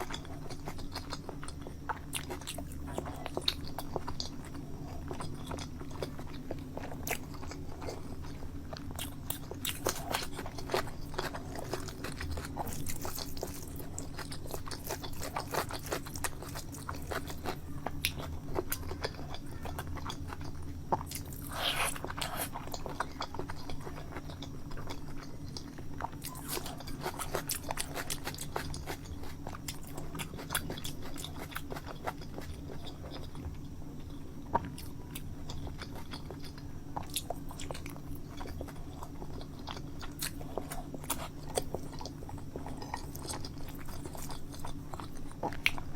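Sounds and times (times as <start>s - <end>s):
person chewing and biting food: 0.0s - 45.9s
steady low hum: 0.0s - 45.9s.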